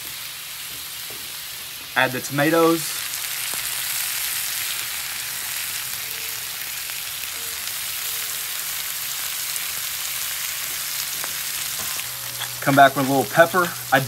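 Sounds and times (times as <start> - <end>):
tomatoes sizzling on a griddle: 0.0 - 14.0.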